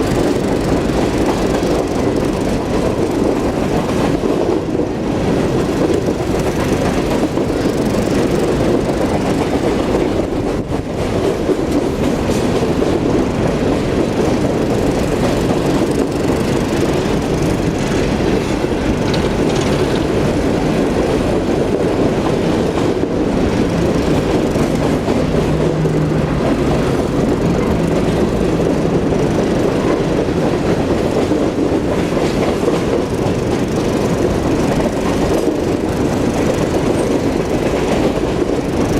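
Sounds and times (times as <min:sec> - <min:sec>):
steel wheels clattering on rails: 0:00.0 - 0:38.9.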